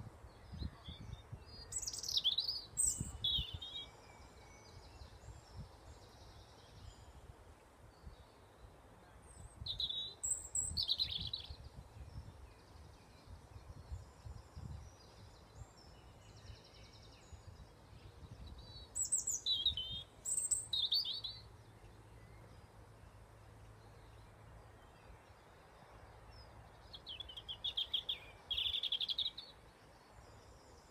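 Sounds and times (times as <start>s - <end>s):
songbirds singing: 0.0s - 30.9s.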